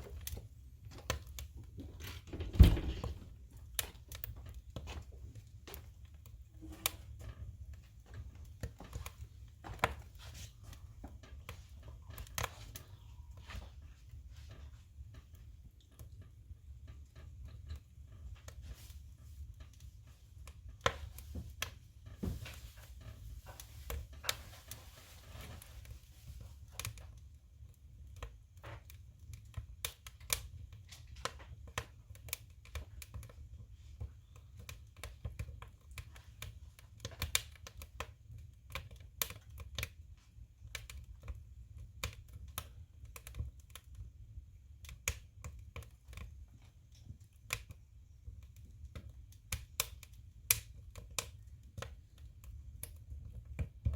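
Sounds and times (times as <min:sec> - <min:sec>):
firewood crackling and popping: 0:00.0 - 0:53.9
low rumble of fire: 0:00.0 - 0:53.9.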